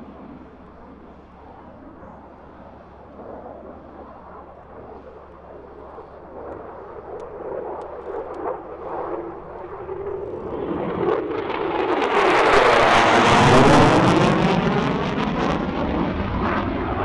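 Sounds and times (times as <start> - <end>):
jet engine rumble in flight: 0.0 - 17.0.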